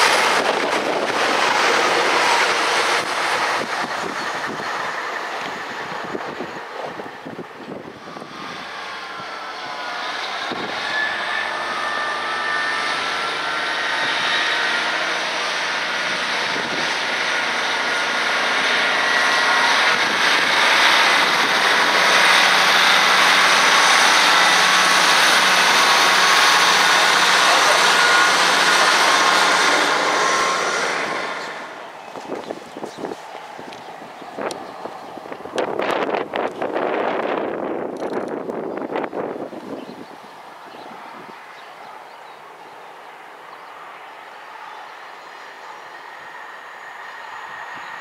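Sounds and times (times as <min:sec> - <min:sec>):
diesel train engines running: 0:00.0 - 0:48.0.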